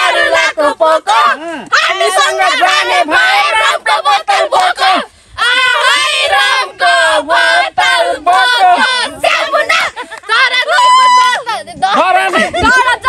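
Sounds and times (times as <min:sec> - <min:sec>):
young women singing together: 0:00.0 - 0:11.2.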